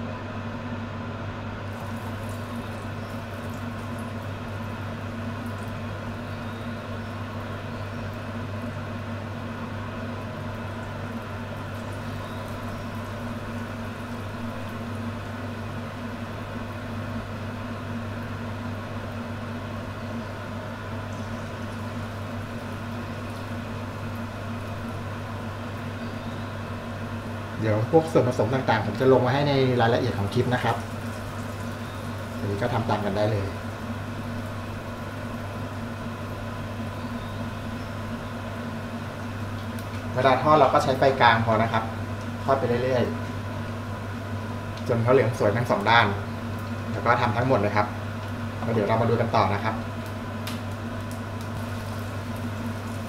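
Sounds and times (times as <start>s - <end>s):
food deep-frying in oil: 1.6s - 53.0s.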